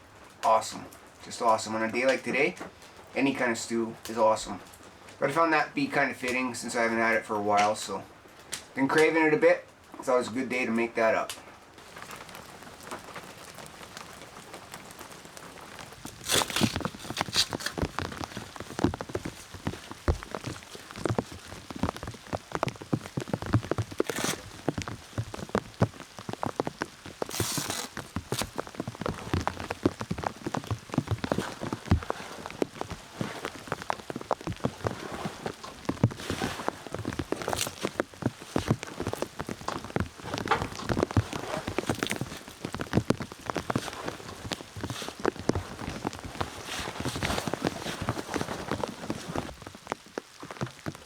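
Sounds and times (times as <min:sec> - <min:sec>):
rain hissing: 0:00.0 - 0:51.0
raindrops ticking close by: 0:00.0 - 0:51.0.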